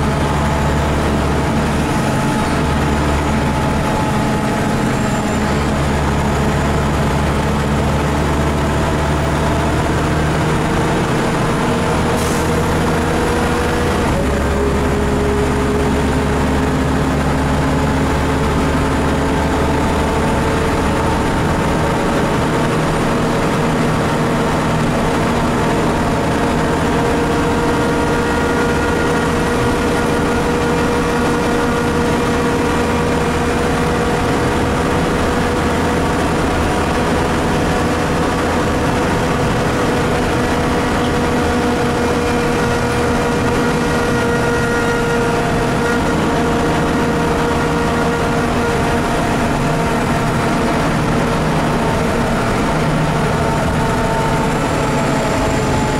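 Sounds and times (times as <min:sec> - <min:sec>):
bus engine drone with whine: 0:00.0 - 0:55.9
road noise: 0:00.0 - 0:55.9.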